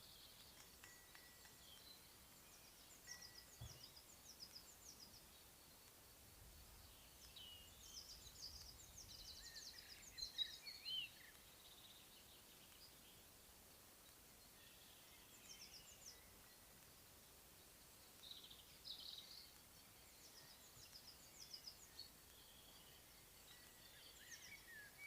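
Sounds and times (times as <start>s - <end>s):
songbird chirps and trills: 0.0s - 25.0s.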